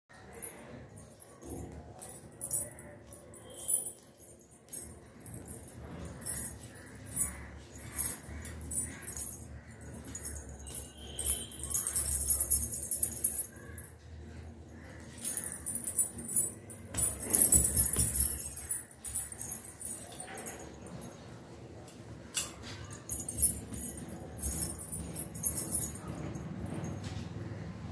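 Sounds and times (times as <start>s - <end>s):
anklet bells jingling: 0.2s - 21.4s, 22.4s - 27.2s.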